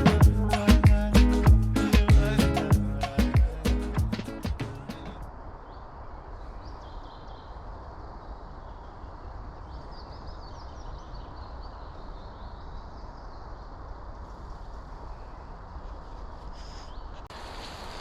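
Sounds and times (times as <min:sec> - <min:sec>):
songbirds chirping: 0:00.0 - 0:15.7.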